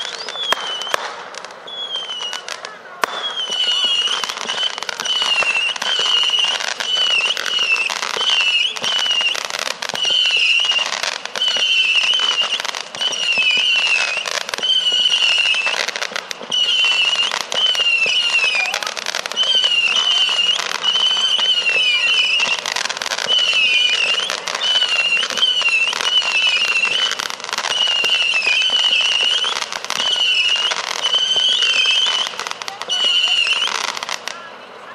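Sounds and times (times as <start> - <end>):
fireworks popping and crackling: 0.0 - 34.9
whistling firework shots: 0.0 - 34.9.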